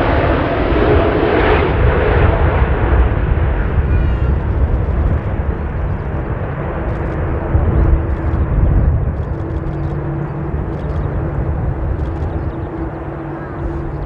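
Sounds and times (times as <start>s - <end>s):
jet airliner landing rumble: 0.0s - 14.0s.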